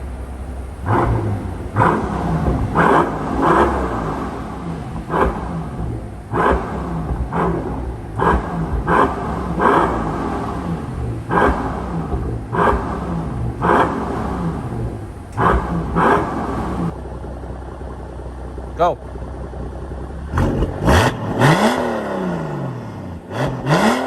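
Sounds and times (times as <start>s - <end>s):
car engine revving: 0.0s - 17.1s, 19.2s - 24.0s.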